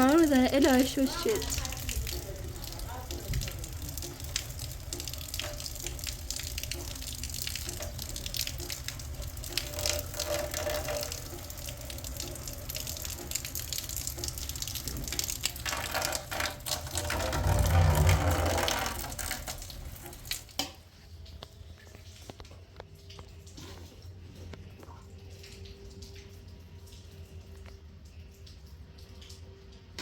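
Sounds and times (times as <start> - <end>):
water dripping: 0.0 - 30.0
water running and splashing: 0.0 - 30.0.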